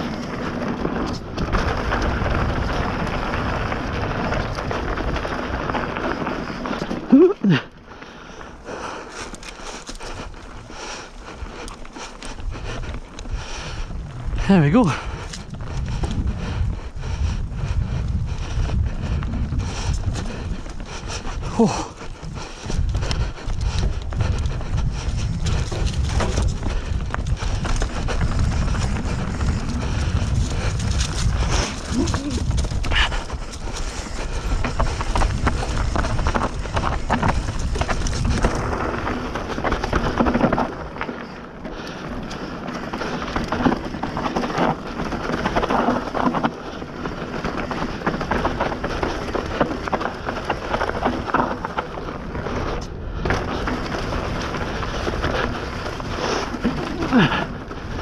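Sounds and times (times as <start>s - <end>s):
wind rumble on microphone: 0.0s - 7.6s, 8.6s - 58.0s
bike tyres crunching and skidding: 0.0s - 58.0s.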